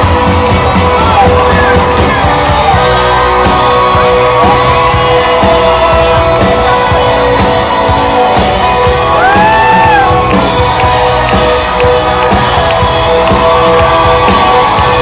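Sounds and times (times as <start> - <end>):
audience shouts and whoop: 0.0 - 15.0
live country band playing: 0.0 - 15.0.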